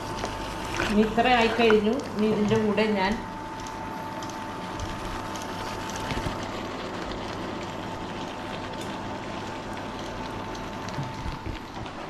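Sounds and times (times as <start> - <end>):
sauce sizzling and bubbling: 0.0 - 12.0.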